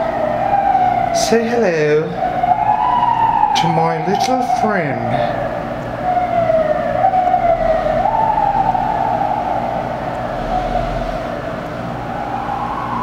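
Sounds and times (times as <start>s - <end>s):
siren wailing: 0.0s - 13.0s
steady low hum: 0.0s - 13.0s.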